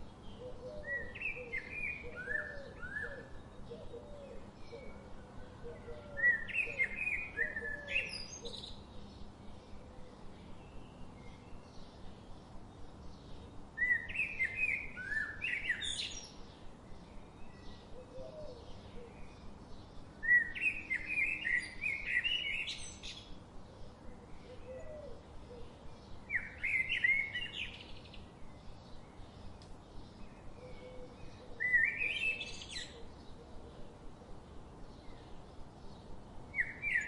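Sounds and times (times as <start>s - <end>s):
faint forest background: 0.0s - 37.0s.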